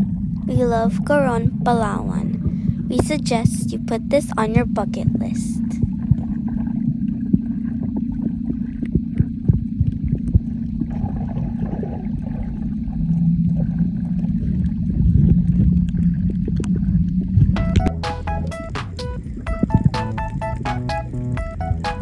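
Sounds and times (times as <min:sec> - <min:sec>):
sharp underwater clicks and crackles: 0:00.0 - 0:17.9
low tone: 0:00.0 - 0:22.0
low underwater hum and rumble: 0:00.0 - 0:22.0.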